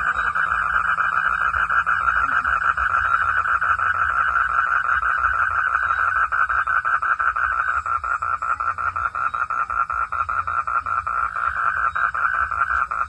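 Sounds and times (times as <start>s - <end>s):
frogs calling: 0.0s - 13.0s.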